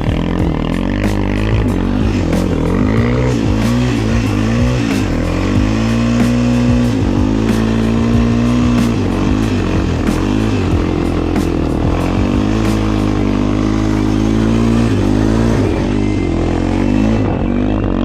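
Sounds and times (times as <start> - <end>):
quad engine revving: 0.0 - 18.0.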